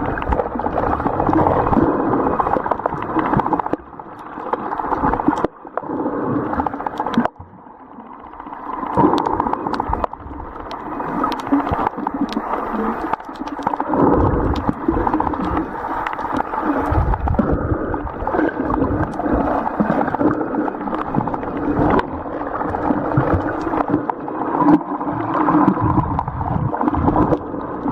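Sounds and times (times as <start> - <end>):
small crackles: 0.0 - 27.9
underwater gurgling and sloshing: 0.0 - 27.9.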